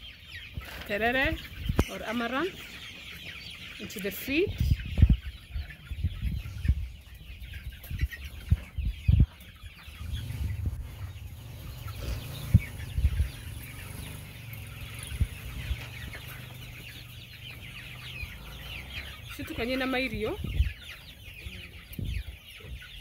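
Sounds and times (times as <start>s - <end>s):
chickens cheeping and clucking: 0.0s - 23.0s.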